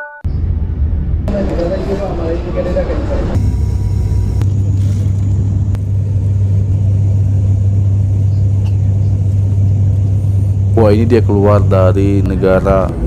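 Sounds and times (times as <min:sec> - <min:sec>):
airliner cabin drone: 0:00.3 - 0:13.0.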